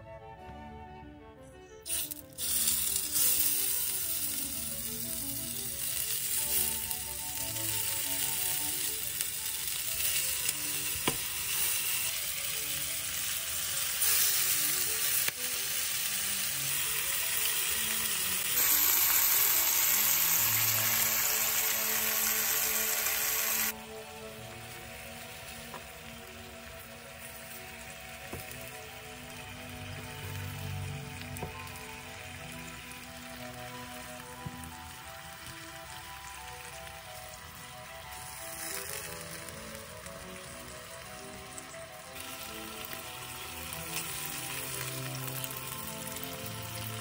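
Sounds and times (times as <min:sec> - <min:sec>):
chicken sizzling in hot oil: 0:01.9 - 0:47.0.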